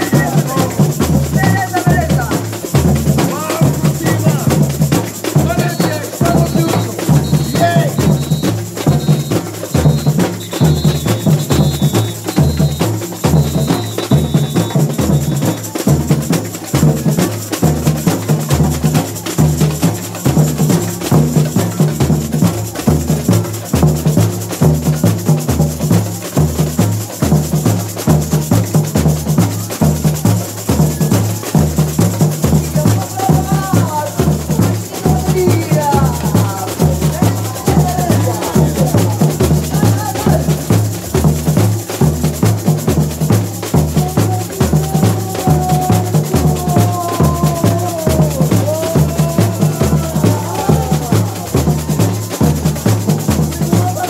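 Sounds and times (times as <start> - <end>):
fast higher percussion: 0.0 - 54.0
surdo bass drums beating: 0.0 - 54.0.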